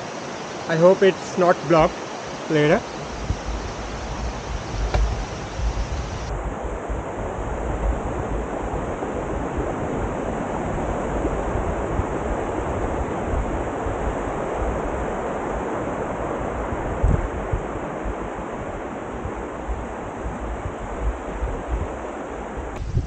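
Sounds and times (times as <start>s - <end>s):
wind buffeting microphone: 2.8s - 23.0s.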